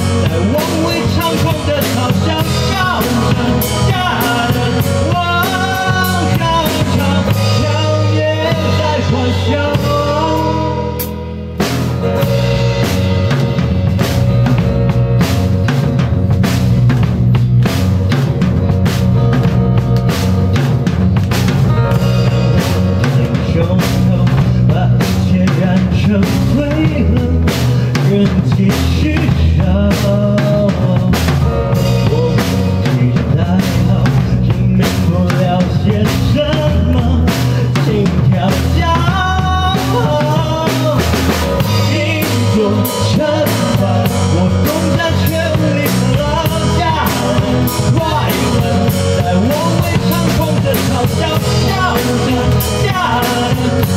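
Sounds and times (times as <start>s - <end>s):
drum kit beat: 0.0s - 53.9s
live band playing: 0.0s - 53.9s.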